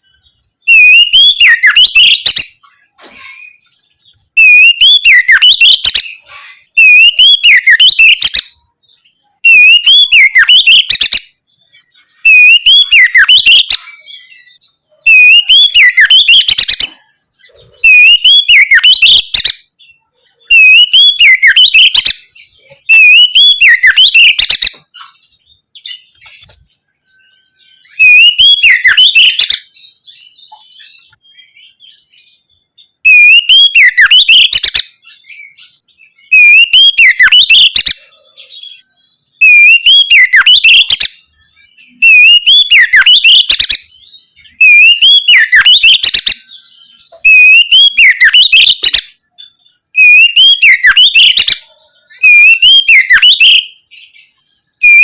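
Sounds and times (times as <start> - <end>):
songbird singing whistled phrases: 0.0 - 55.0.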